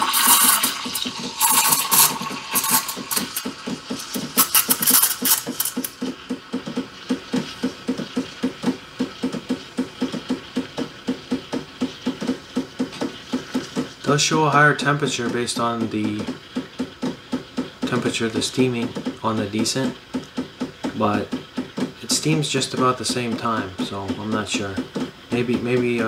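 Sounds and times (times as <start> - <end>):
steam wand steaming milk: 0.0 - 26.0.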